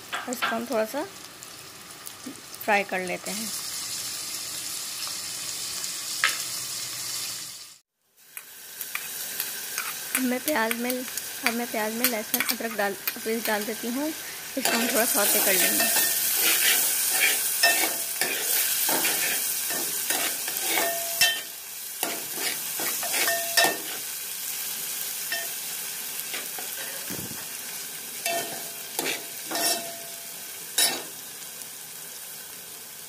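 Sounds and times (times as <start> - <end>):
onion sizzling in hot oil: 0.0 - 33.0.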